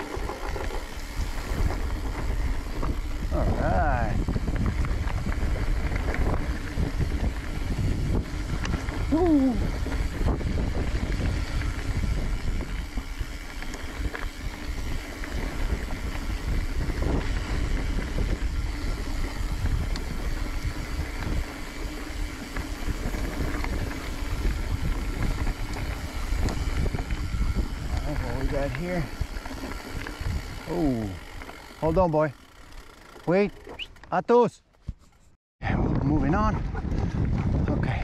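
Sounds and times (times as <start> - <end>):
wind buffeting microphone: 0.0 - 32.8, 35.6 - 38.0
mountain bike rolling on dirt: 0.0 - 35.2, 35.8 - 38.0.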